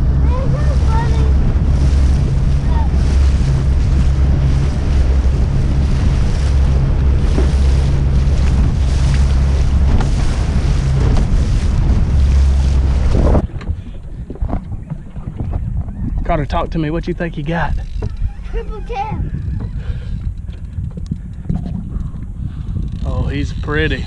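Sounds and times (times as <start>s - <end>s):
boat engine rumble: 0.0s - 24.0s
wind buffeting microphone: 0.0s - 24.0s.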